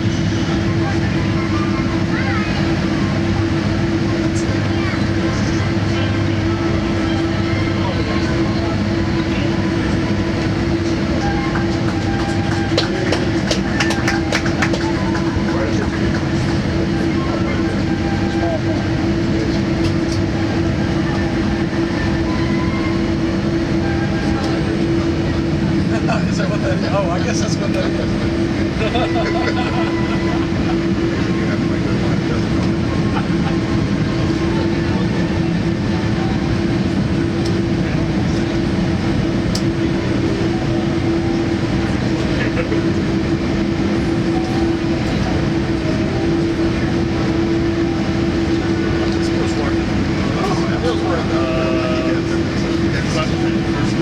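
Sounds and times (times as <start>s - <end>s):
airliner taxiing rumble: 0.0s - 54.0s
constant low hum: 0.0s - 54.0s.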